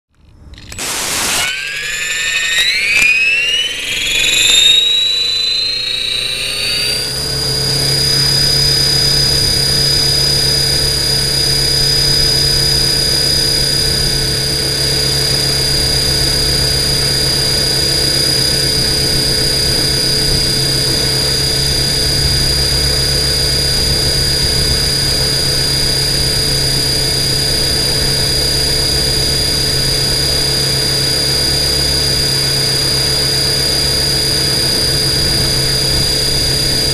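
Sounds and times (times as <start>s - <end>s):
drone motors and propellers whining: 0.1s - 36.9s.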